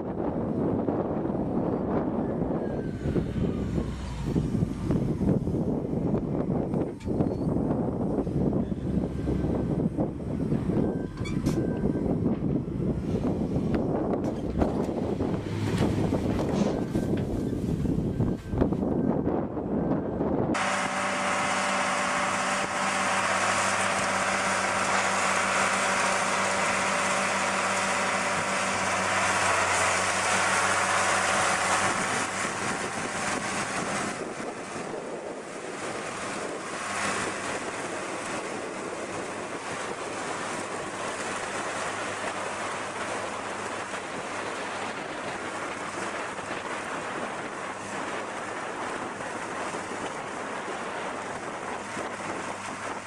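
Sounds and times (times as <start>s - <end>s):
farm machine engine humming: 0.2s - 53.0s.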